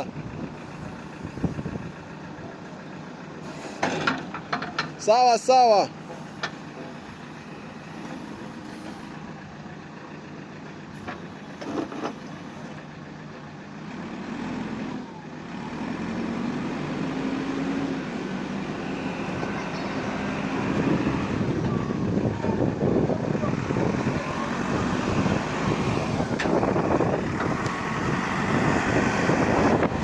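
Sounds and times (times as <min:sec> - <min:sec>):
heavy machine engine running: 0:00.0 - 0:05.0, 0:06.0 - 0:30.0.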